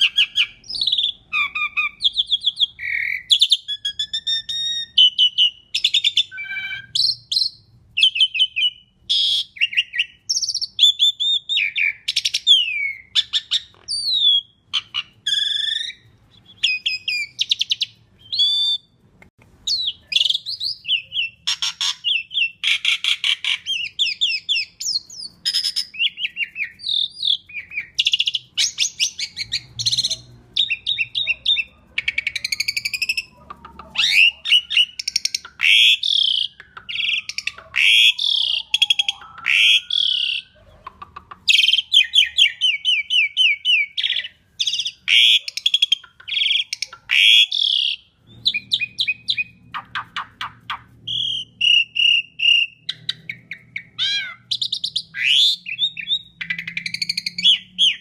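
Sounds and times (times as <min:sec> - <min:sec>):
starling singing: 0:00.0 - 0:19.0, 0:19.6 - 0:58.0.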